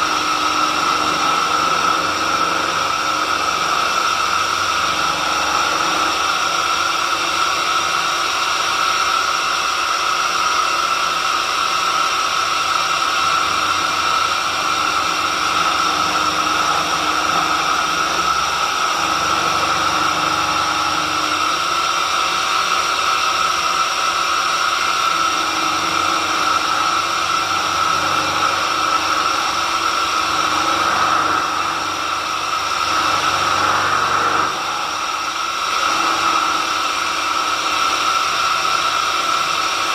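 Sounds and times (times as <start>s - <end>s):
drilling machine motor whining: 0.0s - 39.9s.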